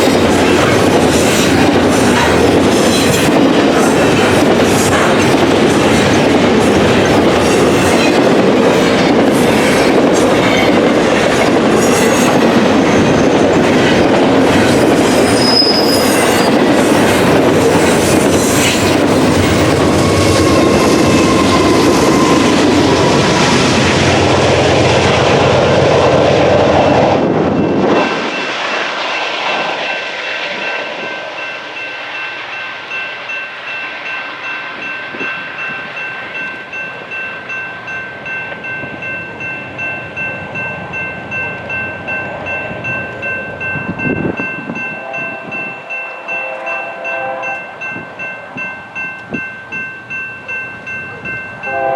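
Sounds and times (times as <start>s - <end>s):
train wheels clacking: 0.0s - 51.9s.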